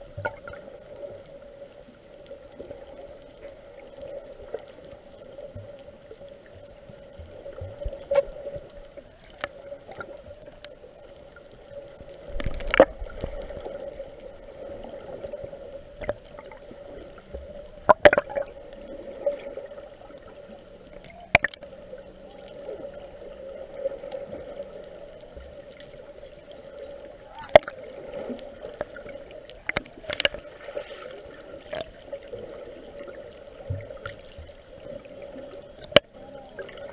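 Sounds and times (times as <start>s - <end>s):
muffled underwater gurgling: 0.0s - 36.9s
steady hum: 0.0s - 36.9s.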